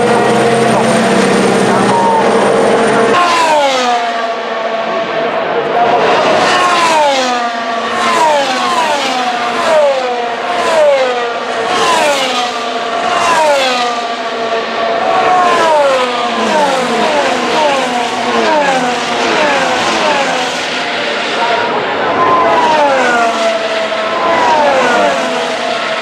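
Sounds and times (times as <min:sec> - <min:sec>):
racing cars passing at speed: 0:00.0 - 0:26.0.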